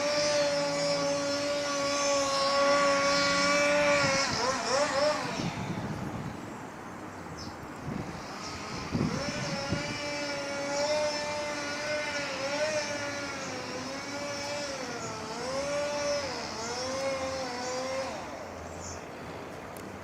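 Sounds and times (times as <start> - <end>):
chainsaw running at high speed: 0.0 - 6.2, 7.8 - 19.1.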